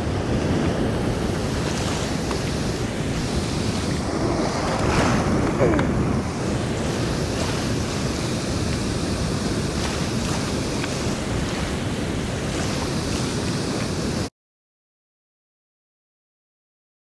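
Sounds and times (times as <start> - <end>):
river water washing on rocks: 0.0 - 14.3
wind buffeting microphone: 0.0 - 14.3.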